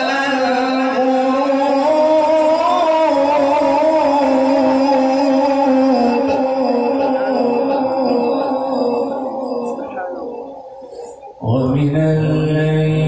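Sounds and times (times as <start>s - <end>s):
man reciting melodically: 0.0s - 9.7s, 11.3s - 13.0s.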